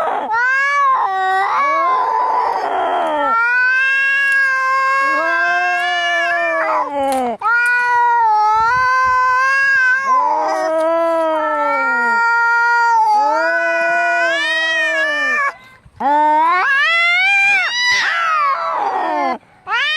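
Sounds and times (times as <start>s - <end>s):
cats yowling in a fight: 0.0s - 19.9s.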